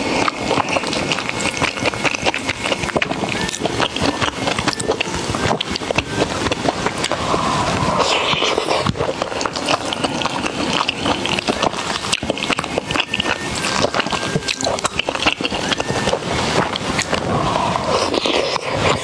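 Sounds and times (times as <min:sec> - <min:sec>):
crunchy chewing: 0:00.0 - 0:19.0
wet mouth noises: 0:00.0 - 0:19.0.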